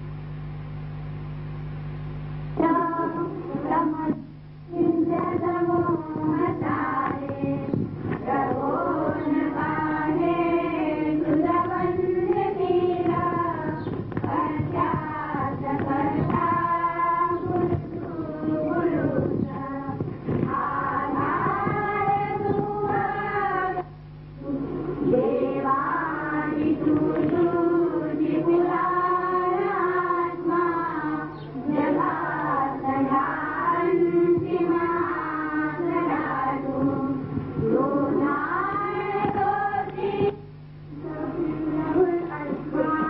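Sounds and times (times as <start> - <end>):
low steady hum: 0.0 - 43.0
group singing hymn in unison: 2.6 - 40.4, 41.0 - 43.0.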